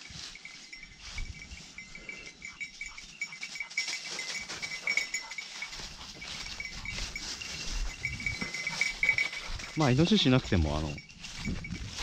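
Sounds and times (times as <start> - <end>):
footsteps through dry leaves: 0.0 - 12.0
high steady ringing tone: 0.0 - 12.0.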